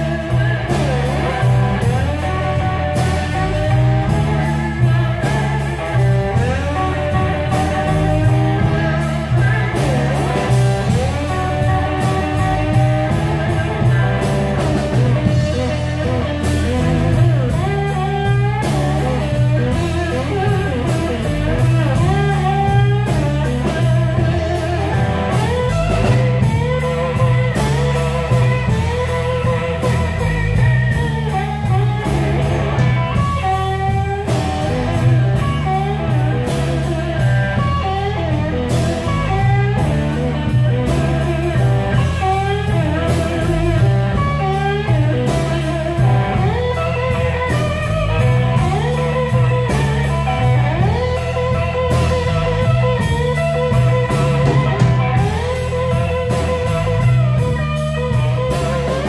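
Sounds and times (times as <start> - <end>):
drums with cymbal hits: 0.0 - 59.0
electric bass: 0.0 - 59.0
electric guitar bending notes: 0.0 - 59.0.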